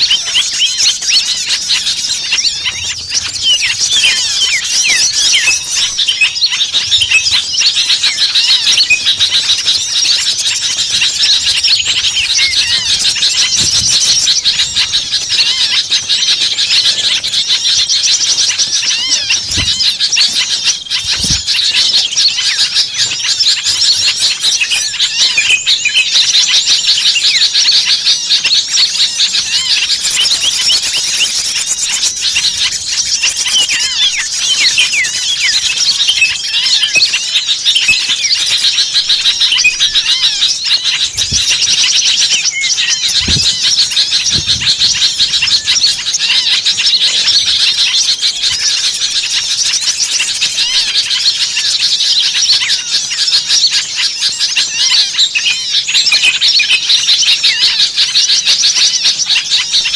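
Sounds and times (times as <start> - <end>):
small songbirds chirping: 0.0 - 59.9.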